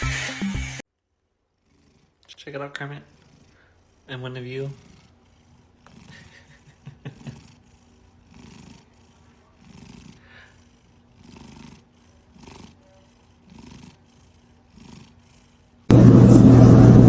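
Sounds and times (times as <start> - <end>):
cat purring: 1.5 - 16.0.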